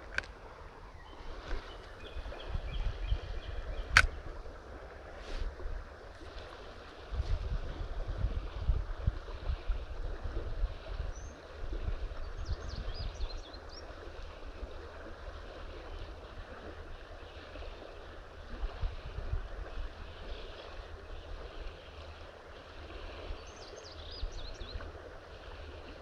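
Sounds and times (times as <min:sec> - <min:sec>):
flowing river water: 0:00.0 - 0:26.0
wind buffeting microphone: 0:00.0 - 0:26.0.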